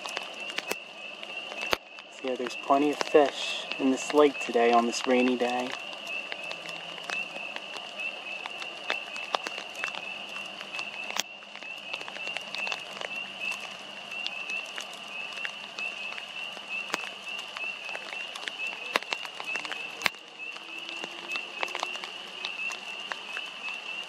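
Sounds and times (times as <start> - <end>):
frogs peeping: 0.0 - 24.0
rain dripping: 0.0 - 24.0.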